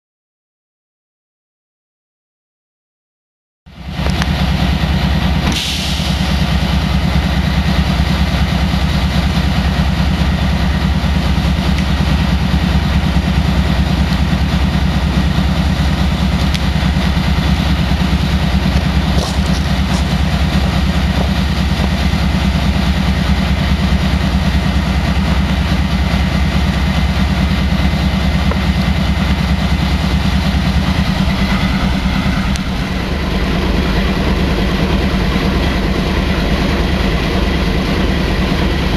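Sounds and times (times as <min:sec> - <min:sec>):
locomotive engines idling: 0:03.7 - 0:38.9.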